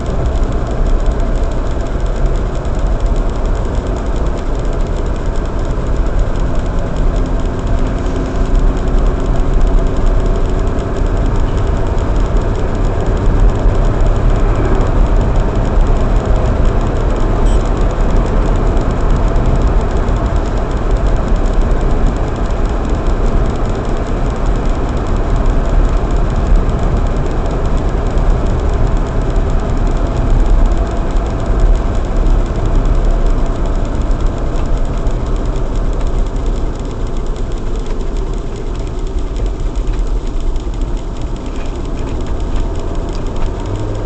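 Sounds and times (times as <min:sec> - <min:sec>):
car engine and tyre noise: 0:00.0 - 0:44.0.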